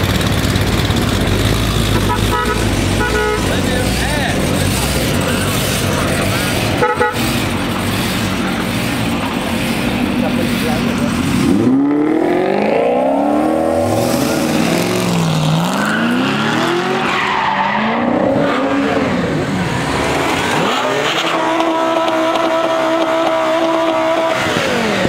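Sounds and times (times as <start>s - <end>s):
engine held at high revs: 0.0s - 17.2s, 17.8s - 25.0s
car engine revving hard: 0.0s - 25.0s.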